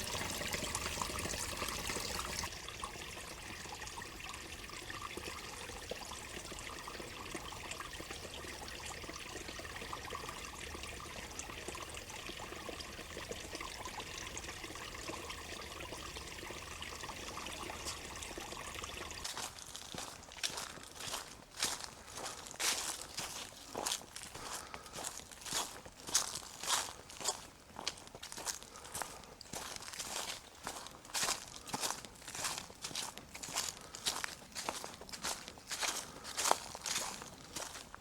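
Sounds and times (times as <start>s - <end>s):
running water trickling: 0.0s - 38.0s.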